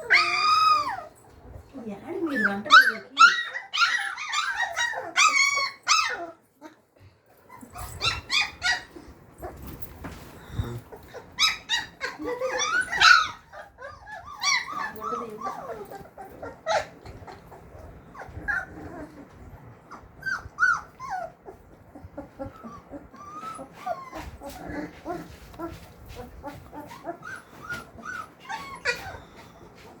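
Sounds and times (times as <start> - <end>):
puppies whining and yelping: 0.0 - 1.6, 2.2 - 30.0.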